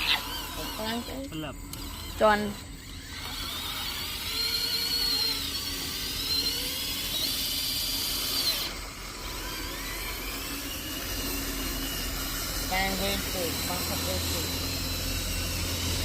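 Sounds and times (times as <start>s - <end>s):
high-pitched small motor whine: 0.0s - 16.0s.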